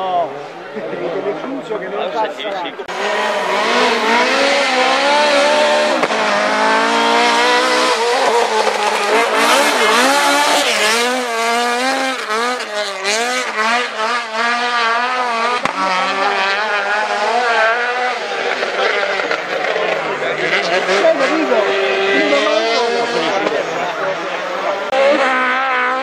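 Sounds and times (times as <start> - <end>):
rally car engine revving hard: 2.8 - 26.0.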